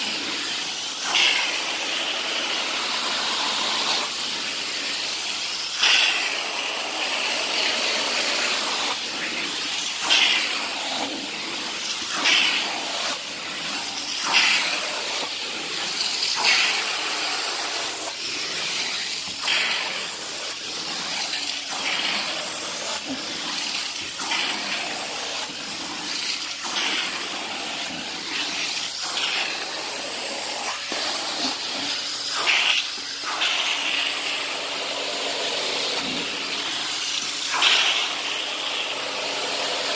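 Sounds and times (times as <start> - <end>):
extraction wand spray and suction hiss: 0.0 - 39.9.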